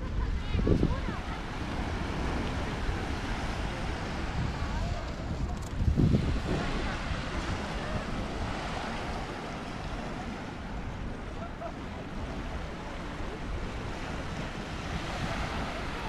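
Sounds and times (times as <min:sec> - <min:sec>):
sea waves washing onto beach: 0:00.0 - 0:16.0
wind rumbling on microphone: 0:00.0 - 0:16.0.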